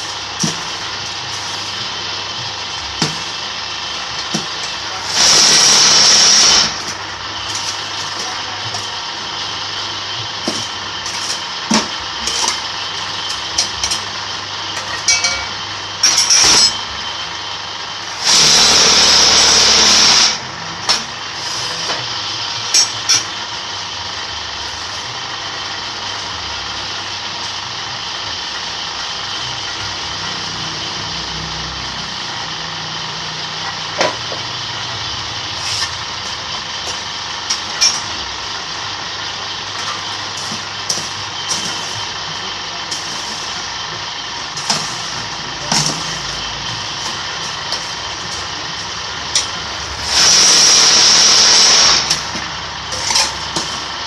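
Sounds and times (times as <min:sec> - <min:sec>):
loud burst of machine noise: 0:00.0 - 0:54.0.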